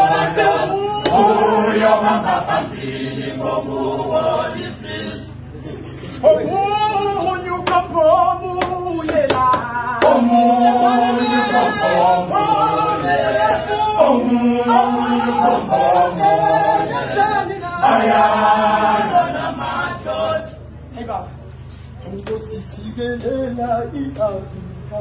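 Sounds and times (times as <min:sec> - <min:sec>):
male choir singing a cappella: 0:00.0 - 0:20.8, 0:22.0 - 0:25.0.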